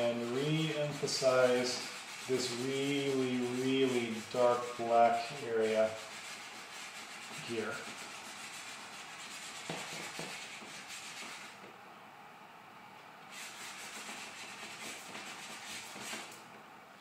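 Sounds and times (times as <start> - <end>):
charcoal scratching on paper: 0.0 - 11.6, 13.3 - 16.4.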